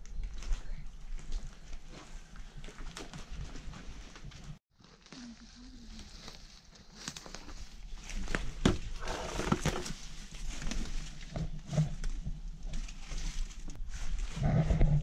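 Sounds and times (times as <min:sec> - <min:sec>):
footsteps on rubble and undergrowth: 0:00.0 - 0:15.0.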